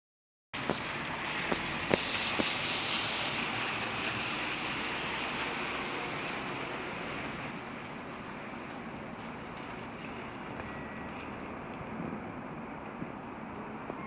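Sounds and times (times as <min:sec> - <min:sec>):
rain and wind rushing: 0:00.6 - 0:14.0.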